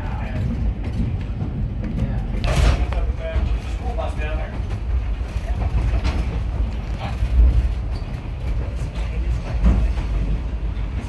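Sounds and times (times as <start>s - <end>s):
knocks of railcar: 0.0s - 11.0s
railcar rumbling on rails: 0.0s - 11.0s.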